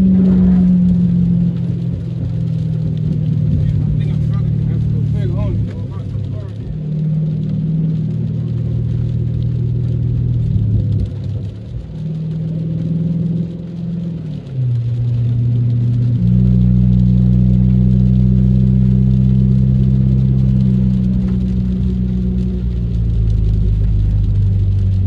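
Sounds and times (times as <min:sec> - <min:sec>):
car engine droning inside cabin: 0:00.0 - 0:25.0.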